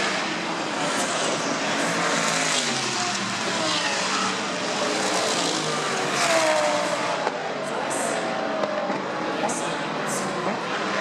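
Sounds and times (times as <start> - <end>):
race cars passing at speed: 0.0 - 11.0.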